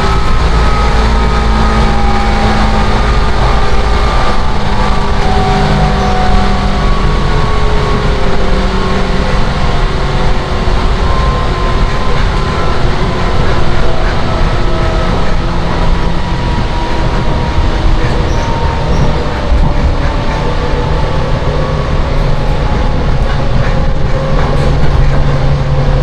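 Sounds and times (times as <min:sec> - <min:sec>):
train rumble inside passenger car: 0:00.0 - 0:26.0.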